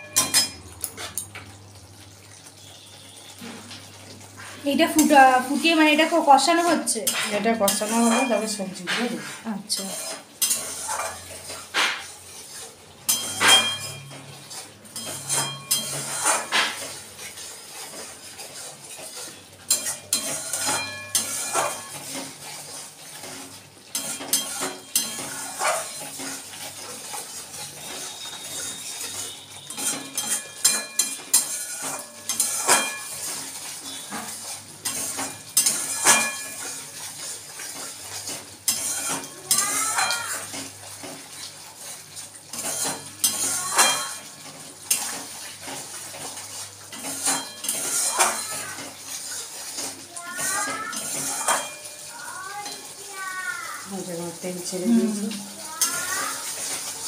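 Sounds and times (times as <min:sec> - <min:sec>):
metal spatula scraping a pan: 0:00.0 - 0:01.3, 0:04.4 - 0:57.0.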